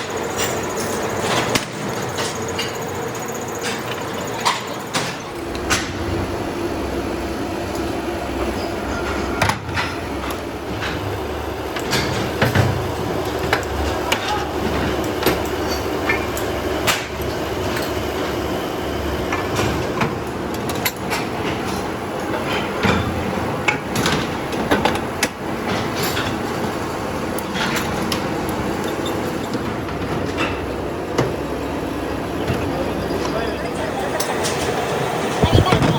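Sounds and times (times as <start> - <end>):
factory machinery running: 0.0 - 35.9.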